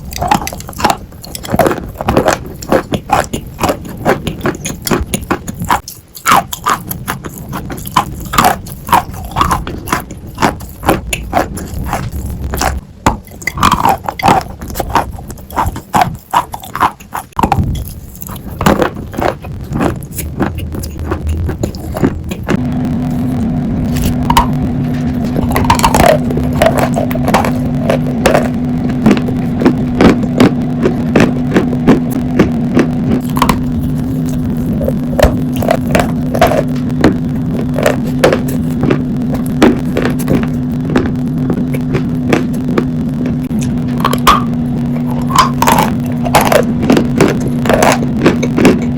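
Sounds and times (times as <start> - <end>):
chalk being chewed: 0.0 - 23.3, 25.4 - 42.9
steady low hum: 0.0 - 48.9.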